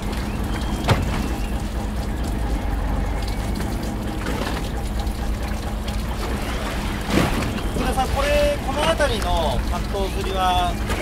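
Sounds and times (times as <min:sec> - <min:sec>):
boat engine hum: 0:00.0 - 0:11.0
water running and splashing: 0:00.0 - 0:11.0.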